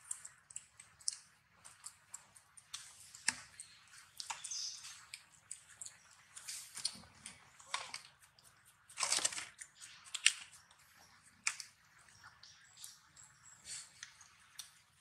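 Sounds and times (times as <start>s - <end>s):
monkeys chewing and lip-smacking: 0.0s - 15.0s.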